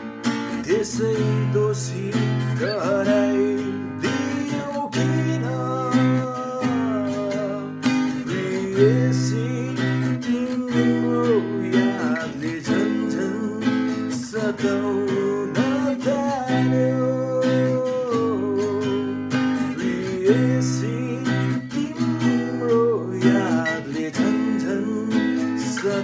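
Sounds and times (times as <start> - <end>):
acoustic guitar strummed: 0.0 - 26.0
bending guitar melody: 0.0 - 26.0.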